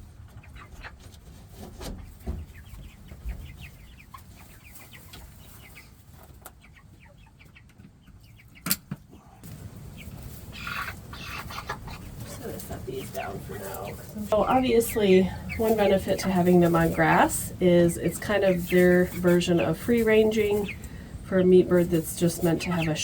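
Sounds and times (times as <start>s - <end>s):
chicks peeping and clucking: 0.0s - 23.0s.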